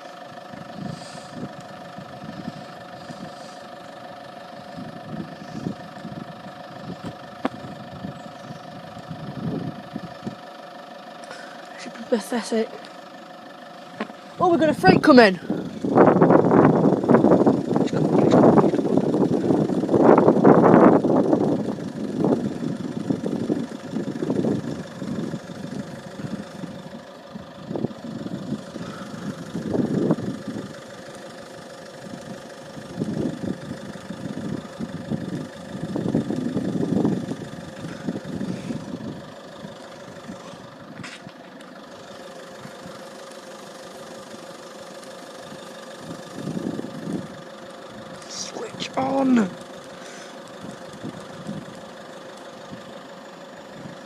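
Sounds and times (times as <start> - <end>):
engines idling: 0.0 - 54.0.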